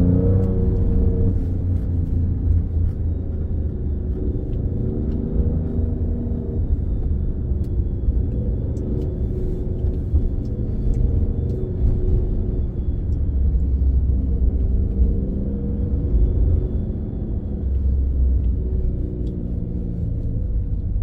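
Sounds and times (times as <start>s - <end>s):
car engine rumbling while driving: 0.0s - 21.0s.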